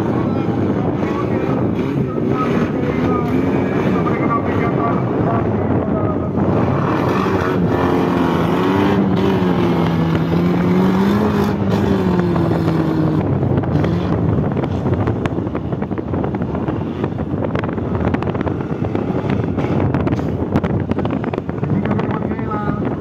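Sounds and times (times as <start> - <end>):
off-road vehicle engine drone: 0.0 - 23.0
rough crackling noise: 0.0 - 23.0.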